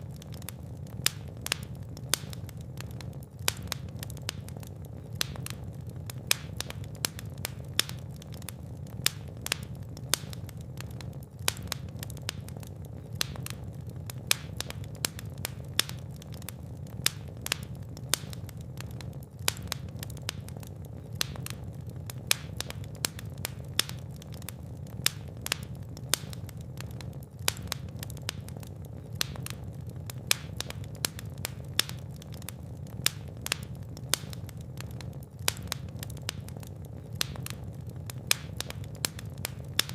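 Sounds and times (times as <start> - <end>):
fire crackling: 0.0 - 39.9
low rumble of flames: 0.0 - 39.9.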